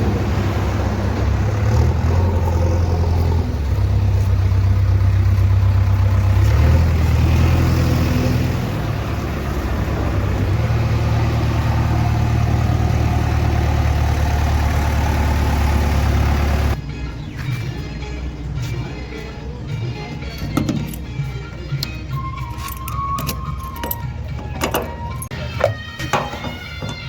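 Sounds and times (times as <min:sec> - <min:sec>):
diesel engine humming: 0:00.0 - 0:27.0.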